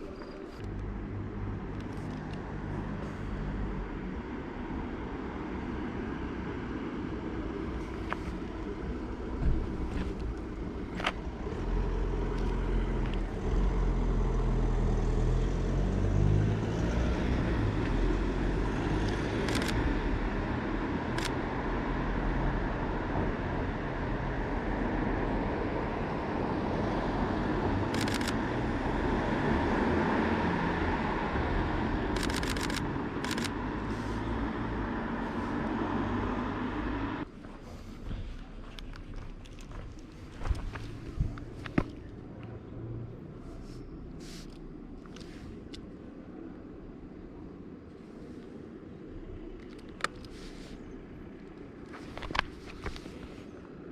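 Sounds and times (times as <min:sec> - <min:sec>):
cars passing: 0:00.0 - 0:53.9.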